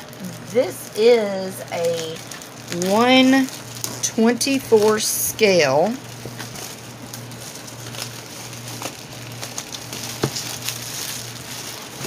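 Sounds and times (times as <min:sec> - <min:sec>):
low steady hum: 0:00.0 - 0:12.0
plastic wrapping crinkling: 0:00.0 - 0:12.0.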